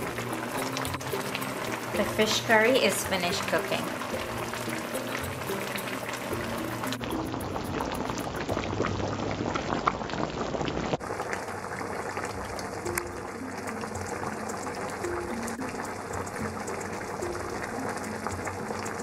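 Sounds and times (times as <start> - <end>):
curry bubbling in a pan: 0.0 - 19.0.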